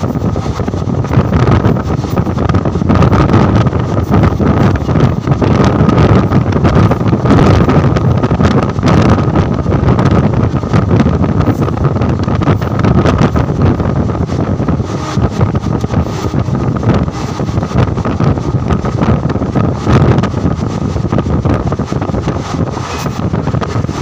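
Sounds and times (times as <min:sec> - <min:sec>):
moving train rumble: 0:00.0 - 0:24.0
wind buffeting microphone: 0:00.0 - 0:24.0.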